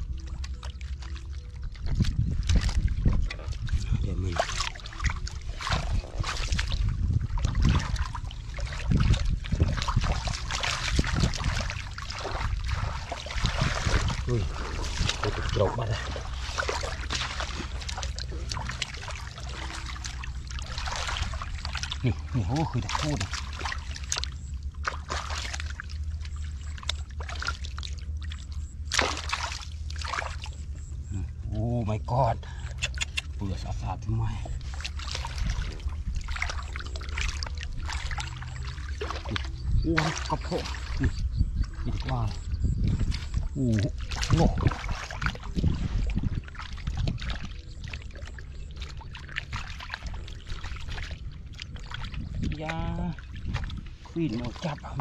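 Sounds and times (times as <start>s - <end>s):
fish thrashing in water: 0.0s - 55.0s
hands splashing in muddy water: 0.0s - 55.0s.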